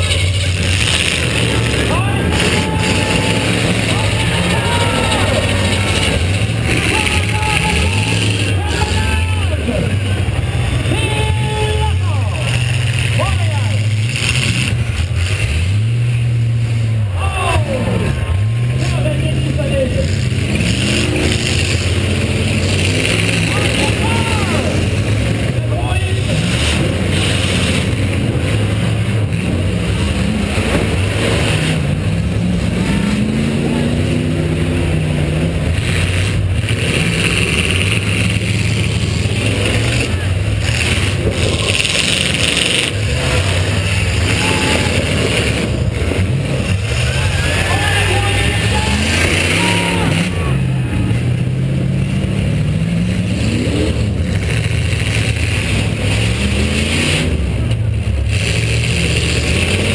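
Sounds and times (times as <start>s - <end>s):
car engine running loud: 0.0s - 59.9s.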